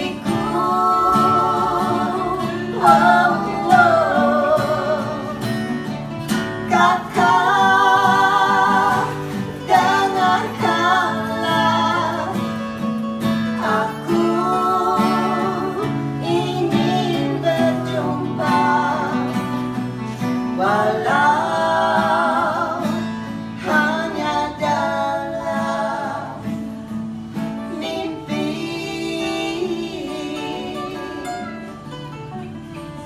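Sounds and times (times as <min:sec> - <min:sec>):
women singing together: 0:00.0 - 0:31.8
plucked string instrument: 0:00.0 - 0:33.0
strummed acoustic guitar: 0:00.0 - 0:33.0.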